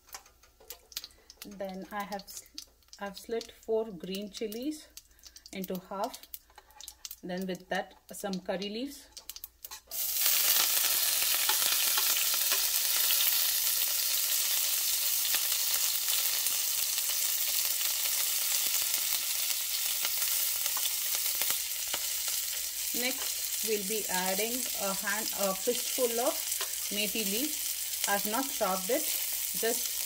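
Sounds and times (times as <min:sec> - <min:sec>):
chillies sizzling in hot oil: 0:00.0 - 0:30.0.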